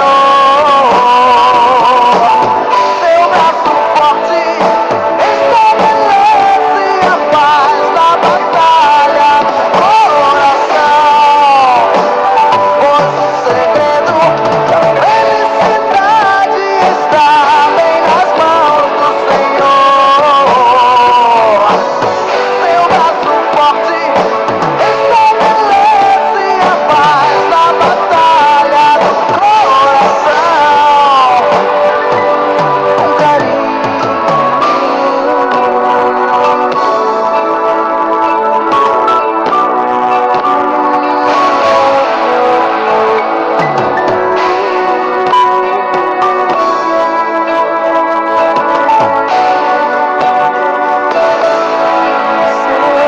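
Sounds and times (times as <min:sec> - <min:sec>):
rock song with singing: 0:00.0 - 0:53.0.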